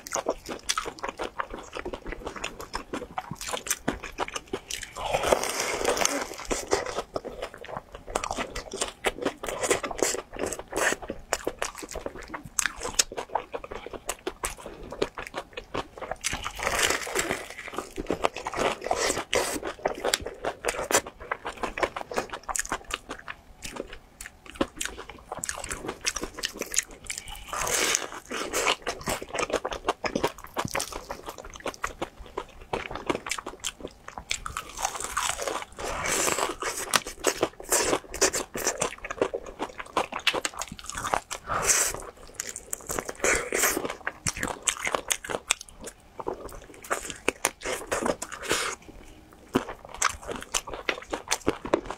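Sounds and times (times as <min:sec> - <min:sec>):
crunching and chewing fried chicken: 0:00.0 - 0:51.9.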